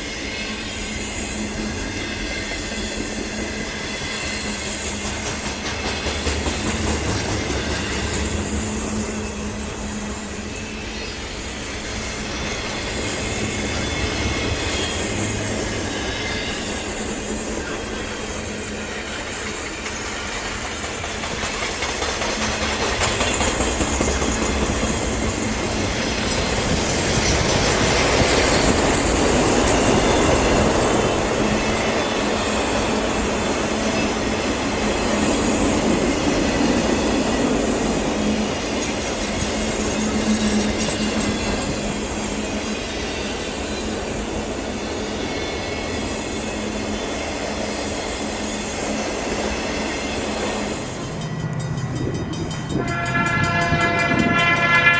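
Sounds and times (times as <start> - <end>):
freight train cars rolling past: 0.0 - 54.9.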